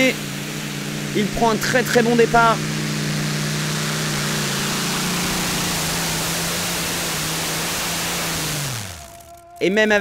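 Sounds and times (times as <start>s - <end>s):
pulling tractor engines roaring: 0.0s - 10.0s.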